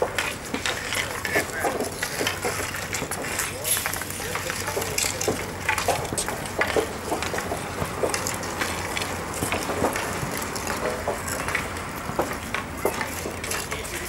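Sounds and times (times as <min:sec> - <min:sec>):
hockey sticks tapping balls on asphalt: 0:00.0 - 0:14.0.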